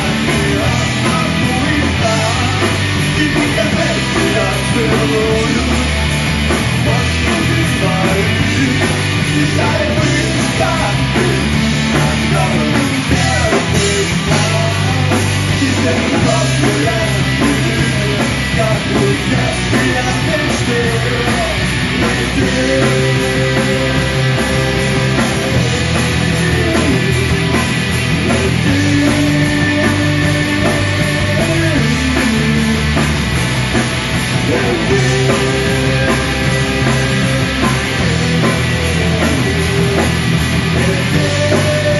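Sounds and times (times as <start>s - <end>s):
bass guitar: 0.0s - 41.9s
drum kit: 0.0s - 41.9s
electric guitar: 0.0s - 41.9s.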